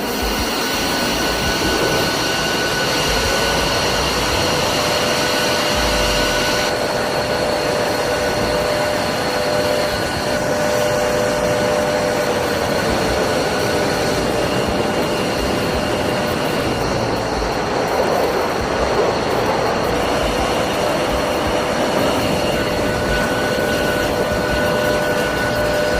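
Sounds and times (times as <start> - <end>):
jet engine whine: 0.0 - 25.9.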